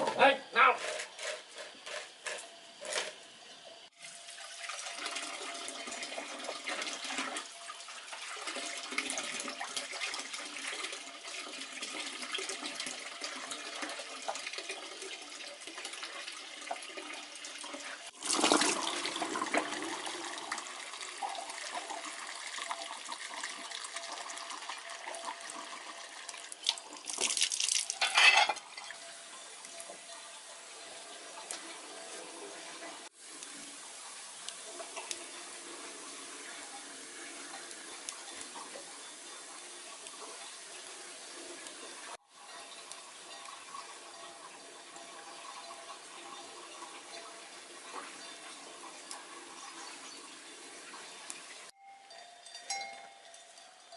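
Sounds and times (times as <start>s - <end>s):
water running and splashing: 3.8s - 51.8s.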